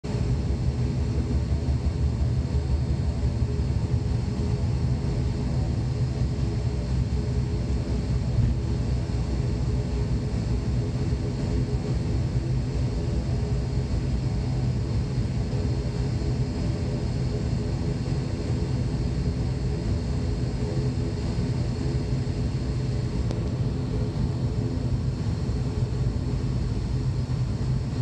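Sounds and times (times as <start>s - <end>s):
turboprop engine droning: 0.0s - 28.0s.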